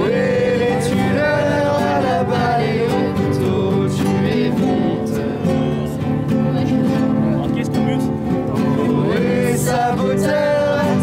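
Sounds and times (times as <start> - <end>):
guitar accompaniment: 0.0 - 11.0.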